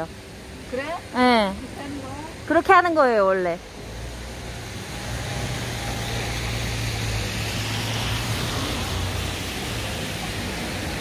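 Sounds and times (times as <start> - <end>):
tyres on wet asphalt: 0.0 - 11.0.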